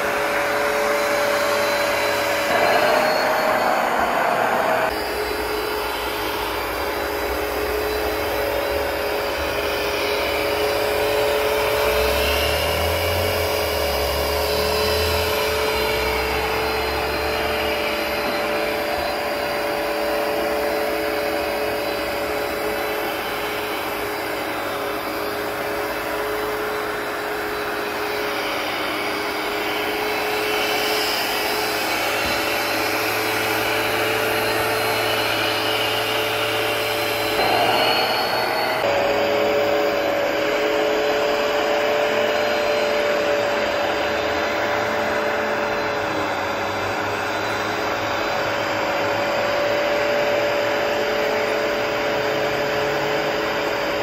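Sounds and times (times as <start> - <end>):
carpet cleaner running: 0.0 - 54.0.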